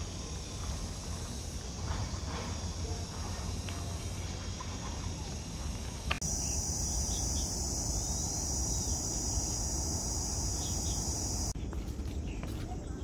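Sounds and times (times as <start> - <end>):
high-pitched insect chorus: 0.0 - 11.6.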